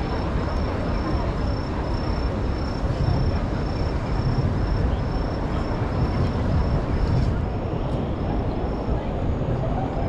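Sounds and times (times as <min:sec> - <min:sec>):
crowd noise: 0:00.0 - 0:10.0
traffic rumble: 0:00.0 - 0:10.0.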